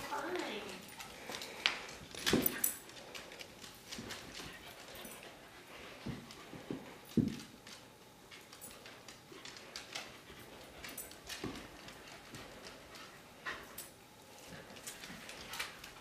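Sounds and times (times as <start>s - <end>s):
dog claws clicking on wooden floor: 0.1s - 13.9s.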